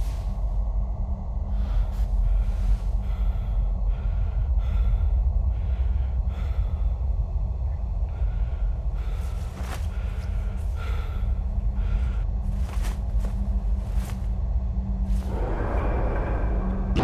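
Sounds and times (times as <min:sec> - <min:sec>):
deep rumbling drone: 0:00.0 - 0:17.0
man breathing heavily: 0:01.3 - 0:16.9.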